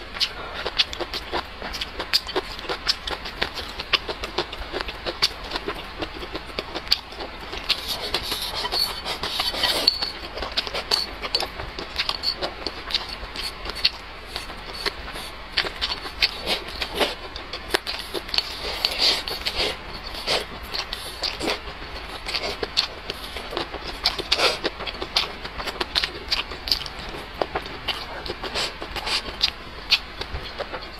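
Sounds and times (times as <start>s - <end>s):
person chewing: 0.0s - 30.9s.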